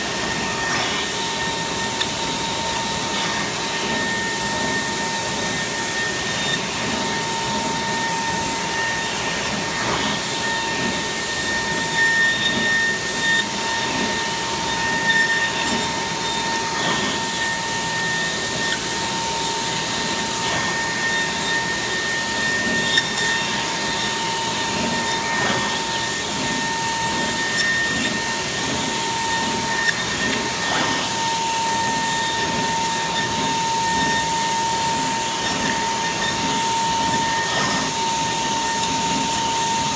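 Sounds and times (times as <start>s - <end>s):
milling spindle whine: 0.0s - 39.9s.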